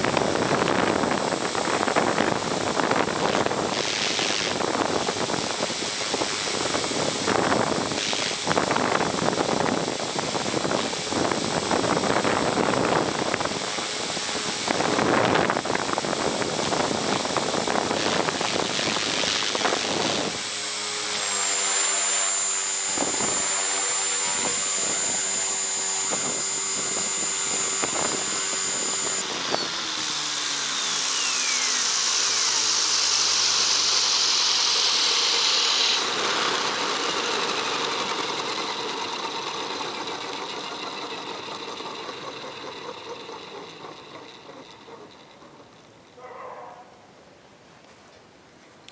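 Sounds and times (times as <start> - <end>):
helicopter motor whine: 0.0 - 46.2
rotor noise: 0.0 - 46.2.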